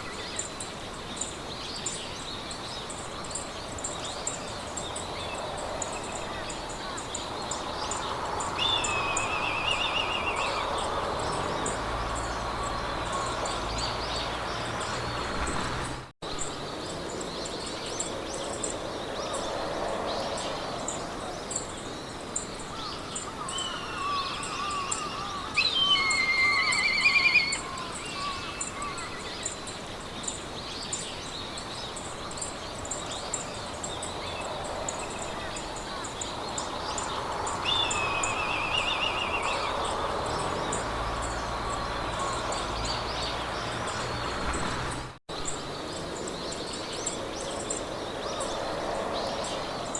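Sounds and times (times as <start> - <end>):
wild birds singing: 0.0 - 49.9
wind in grass: 0.0 - 49.9.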